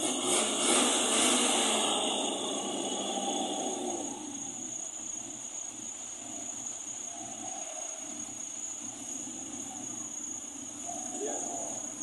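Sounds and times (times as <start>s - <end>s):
insects shrilling: 0.4s - 12.0s.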